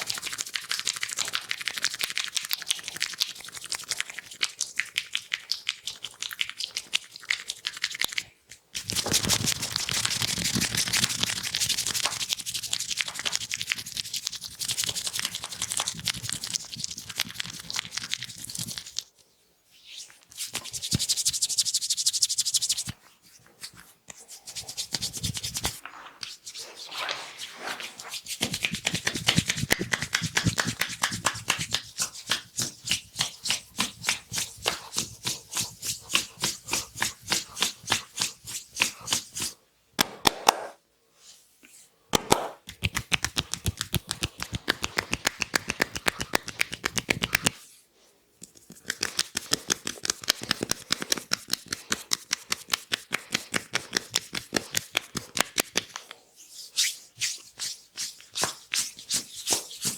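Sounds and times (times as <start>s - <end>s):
hands rubbing and tapping skin: 0.0s - 19.2s, 19.9s - 40.8s, 41.6s - 47.6s, 48.3s - 59.9s.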